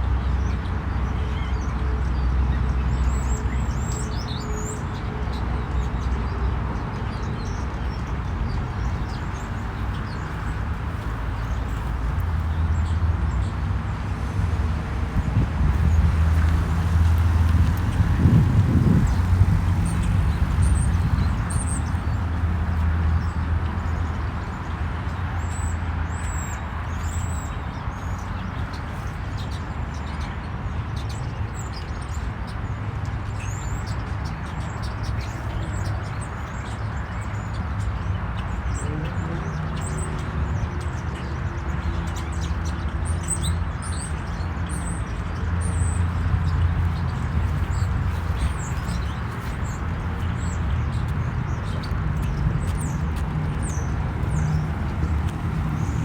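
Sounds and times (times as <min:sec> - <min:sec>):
small birds chirping: 0:07.0 - 0:56.0.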